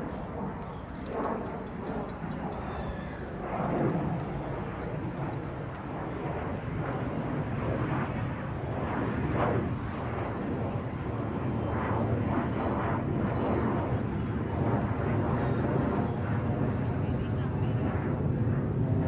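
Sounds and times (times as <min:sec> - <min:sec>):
jet airliner passing overhead: 0:00.0 - 0:19.0.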